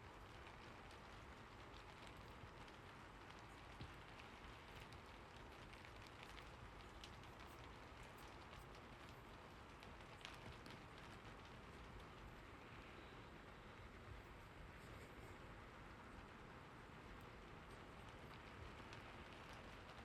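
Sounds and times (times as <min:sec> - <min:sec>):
faint rain falling: 0:00.0 - 0:20.0.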